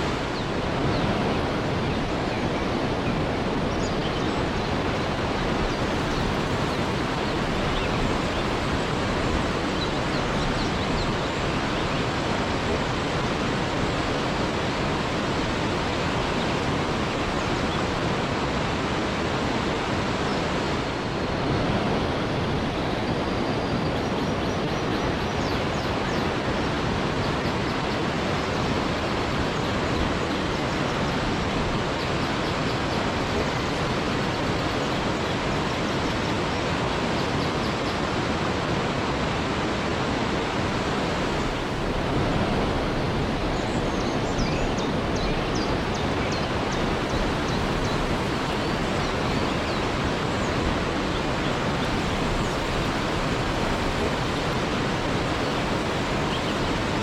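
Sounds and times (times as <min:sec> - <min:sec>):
waterfall rushing: 0:00.0 - 0:23.4, 0:28.0 - 0:57.0.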